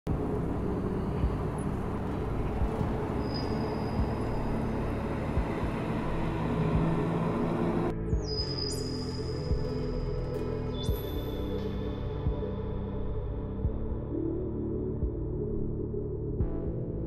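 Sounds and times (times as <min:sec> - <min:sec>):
rumble of road traffic: 0:00.1 - 0:14.7.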